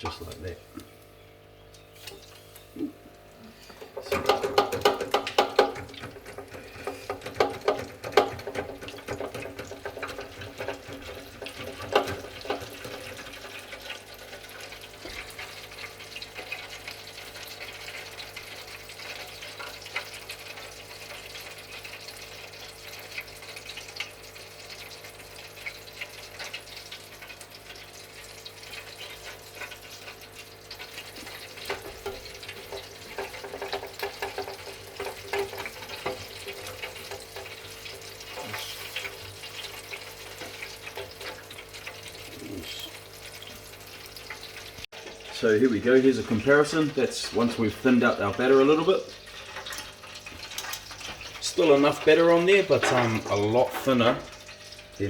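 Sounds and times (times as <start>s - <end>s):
fish deep frying in oil: 0.0s - 55.0s.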